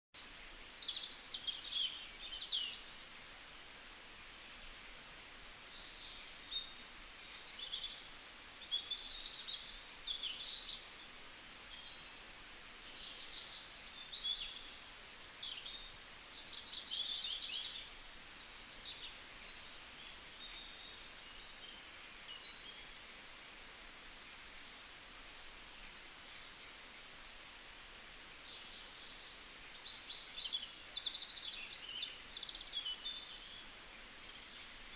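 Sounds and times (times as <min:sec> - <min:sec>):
faint steady hiss: 0:00.2 - 0:34.9
small songbirds chirping: 0:00.2 - 0:34.9.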